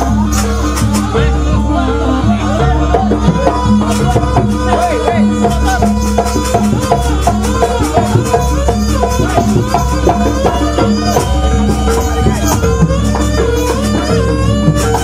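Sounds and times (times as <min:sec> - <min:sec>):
traditional ensemble dance music: 0:00.0 - 0:15.0.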